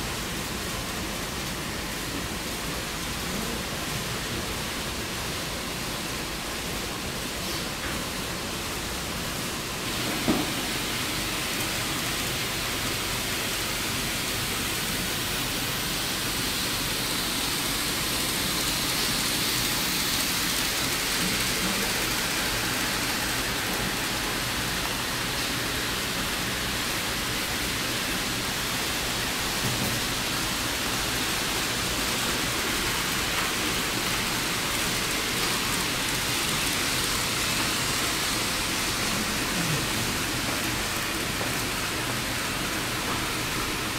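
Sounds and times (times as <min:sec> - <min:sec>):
model trains running on tracks: 0:00.0 - 0:43.9.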